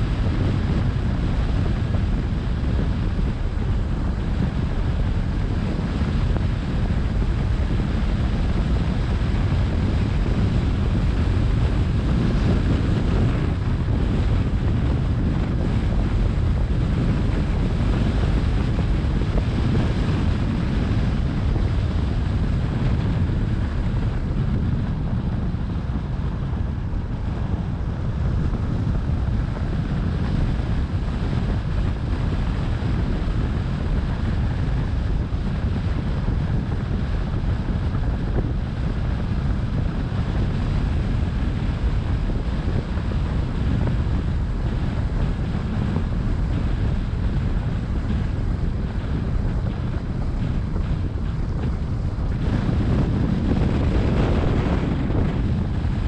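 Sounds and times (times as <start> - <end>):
car road and wind noise: 0.0 - 56.0.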